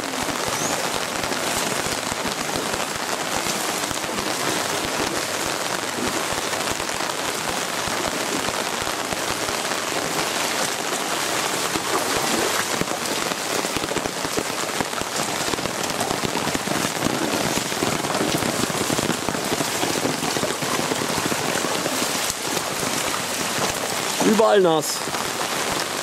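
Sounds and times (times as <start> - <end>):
heavy rain on leaves and water: 0.0 - 26.0.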